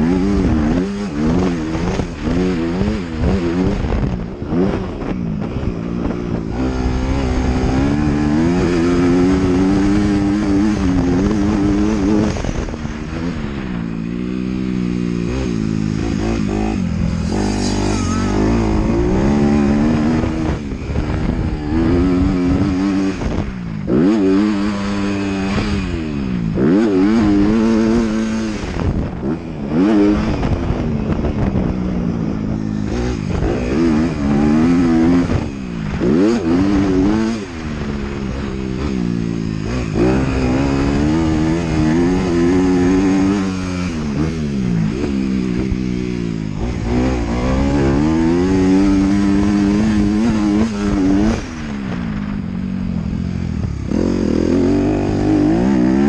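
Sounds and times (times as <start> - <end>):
motocross bike engine revving: 0.0 - 56.0
wind and track noise: 0.0 - 56.0.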